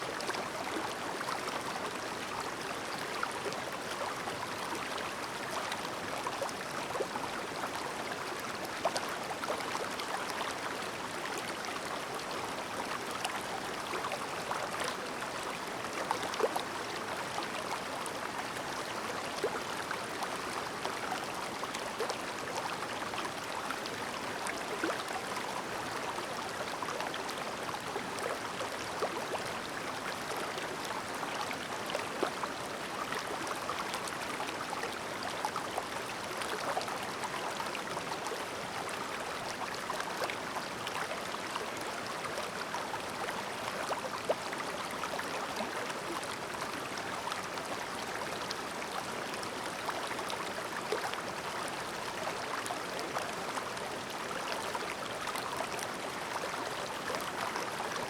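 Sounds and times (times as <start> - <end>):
stream babbling over stones: 0.1 - 58.0.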